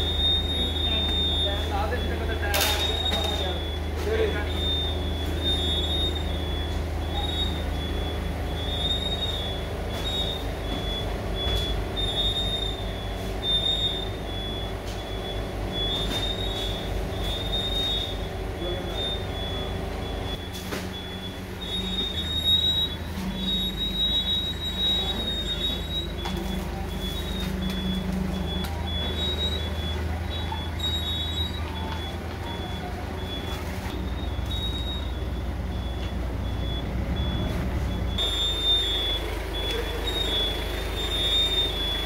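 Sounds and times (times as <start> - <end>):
forklift hum: 0.0 - 42.0
high warning beeps: 0.0 - 42.0.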